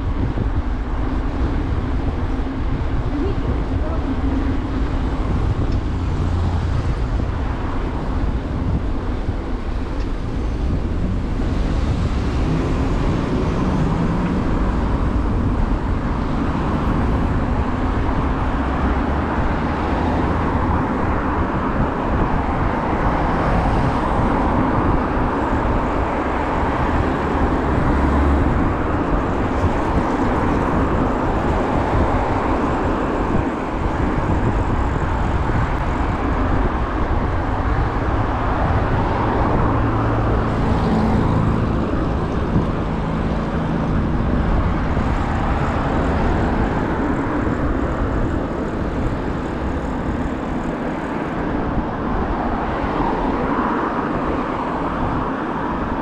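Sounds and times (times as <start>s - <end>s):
city road traffic: 0.0s - 56.0s.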